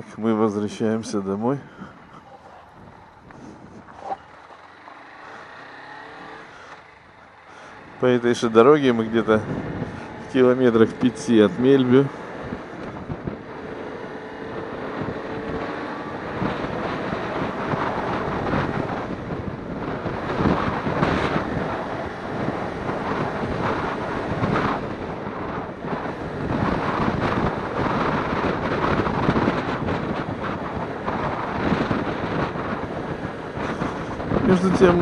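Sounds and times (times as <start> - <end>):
wind buffeting microphone: 0.0 - 35.0
motorcycle engine running: 0.7 - 35.0.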